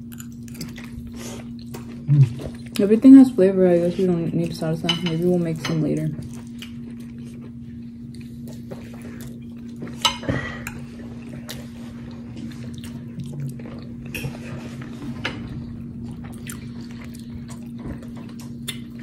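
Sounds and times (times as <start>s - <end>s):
person chewing: 0.0s - 2.9s, 6.2s - 19.0s
steady low hum: 0.0s - 19.0s.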